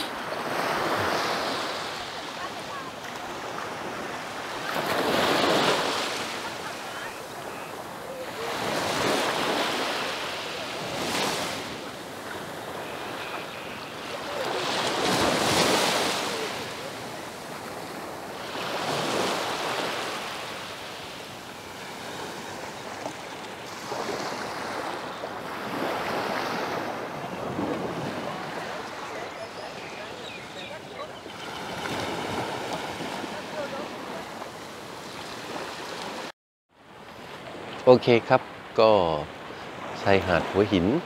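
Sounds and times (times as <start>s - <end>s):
small waves washing on sand: 0.0s - 37.8s.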